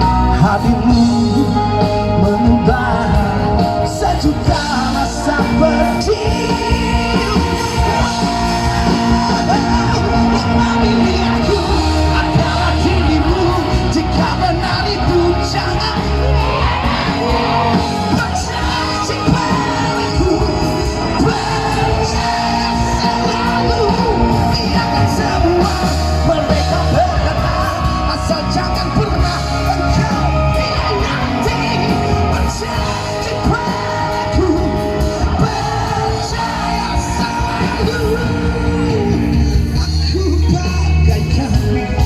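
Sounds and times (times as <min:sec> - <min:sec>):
live rock band music: 0:00.0 - 0:42.0
people singing and yelling: 0:00.0 - 0:42.0.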